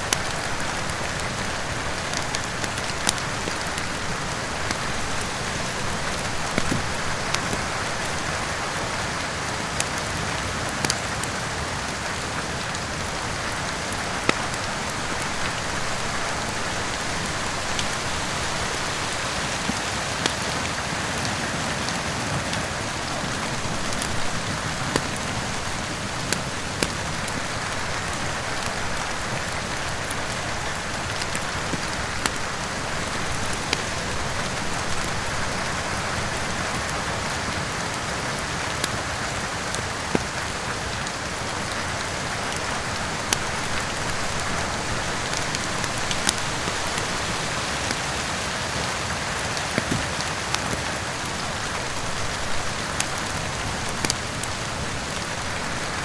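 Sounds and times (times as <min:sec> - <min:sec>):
heavy rain: 0:00.0 - 0:56.0
wood fire crackling: 0:00.0 - 0:56.0.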